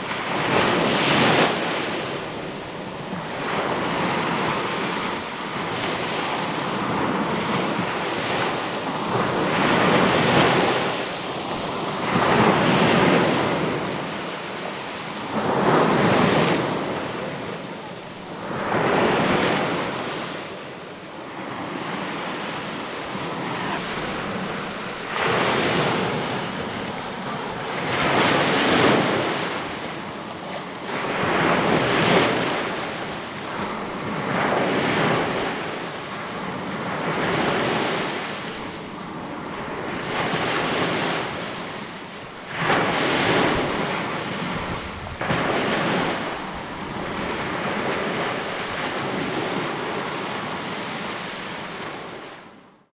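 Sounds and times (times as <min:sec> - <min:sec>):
sea waves surging: 0:00.0 - 0:52.4.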